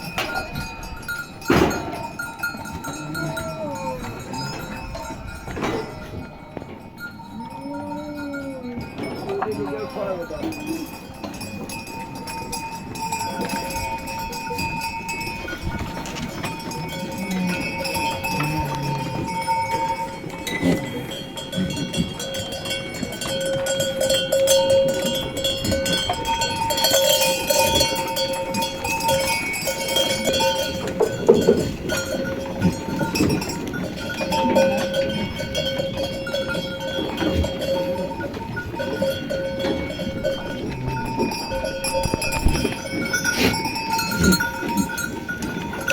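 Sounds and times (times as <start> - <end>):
sheep bells clanking: 0.0 - 45.9.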